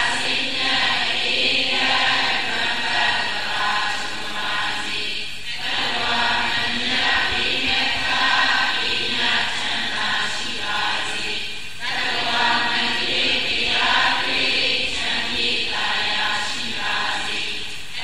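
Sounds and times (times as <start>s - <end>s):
group of voices chanting: 0.0s - 18.0s.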